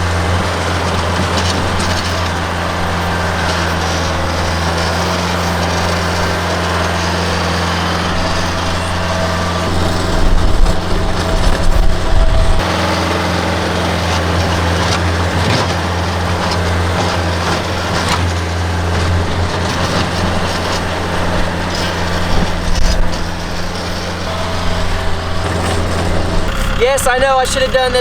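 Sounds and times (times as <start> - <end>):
loader knocks and scrapes: 0.0 - 27.4
tractor engine running: 0.0 - 28.0.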